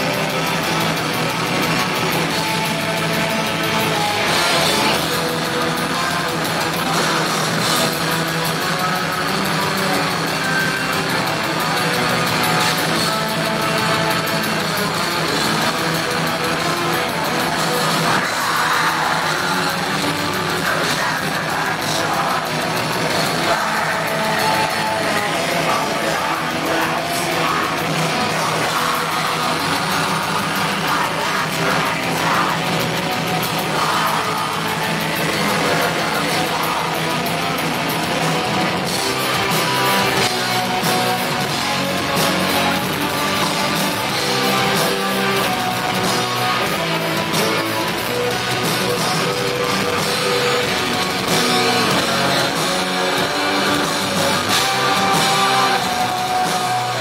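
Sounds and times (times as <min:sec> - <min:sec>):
distorted electric guitars: 0:00.0 - 0:57.0
drums: 0:00.0 - 0:57.0.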